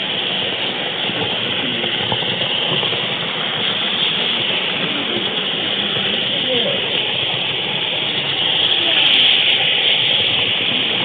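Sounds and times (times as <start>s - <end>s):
model train wheels rumbling: 0.0s - 11.0s.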